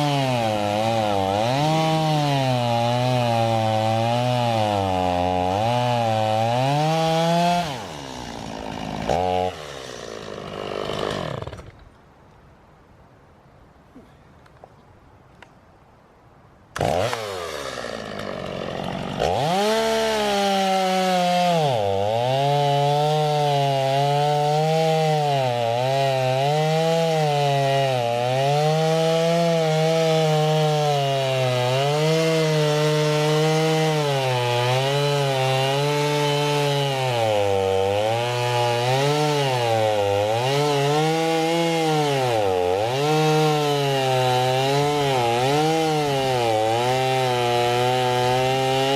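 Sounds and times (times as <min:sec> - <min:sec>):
chainsaw cutting hay bale: 0:00.0 - 0:11.8, 0:16.8 - 0:48.9.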